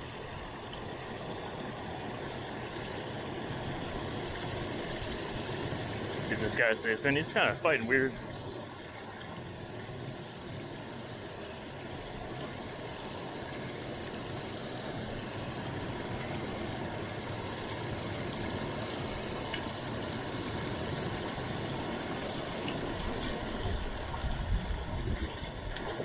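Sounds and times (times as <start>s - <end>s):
water rushing over weir: 0.0s - 26.0s.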